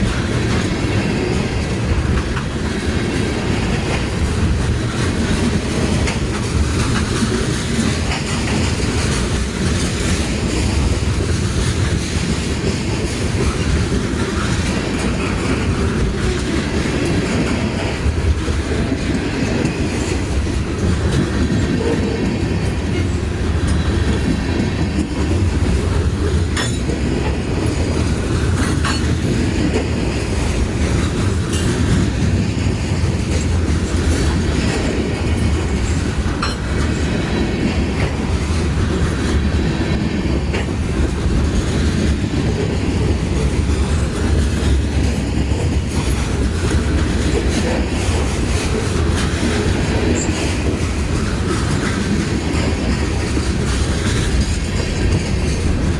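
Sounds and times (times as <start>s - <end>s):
train wheels rumbling on rail: 0.0s - 55.9s
wheels clicking over rail joints: 0.0s - 55.9s.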